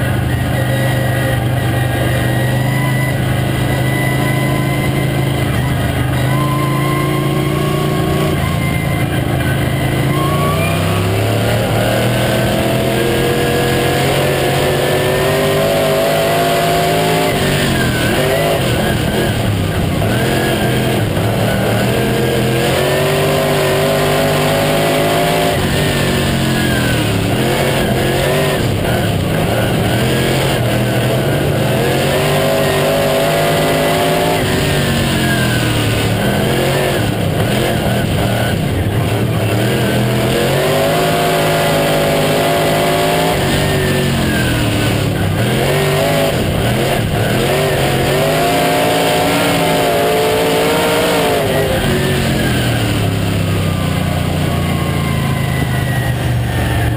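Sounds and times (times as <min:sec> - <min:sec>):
racing car engine: 0:00.0 - 0:56.9.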